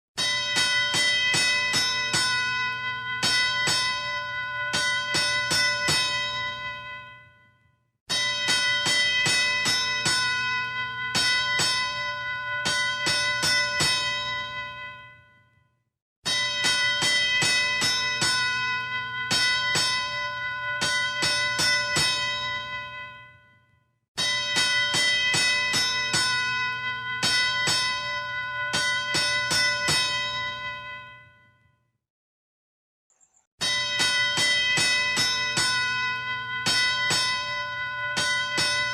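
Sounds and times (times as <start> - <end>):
boxing bell ringing rapidly: 0.2 - 7.5, 8.1 - 15.4, 16.3 - 23.6, 24.2 - 31.5, 33.2 - 38.9.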